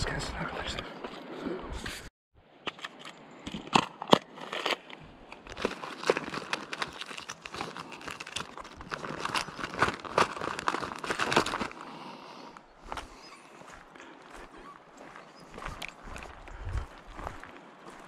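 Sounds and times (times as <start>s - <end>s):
footsteps crunching on stony ground: 2.8s - 18.0s.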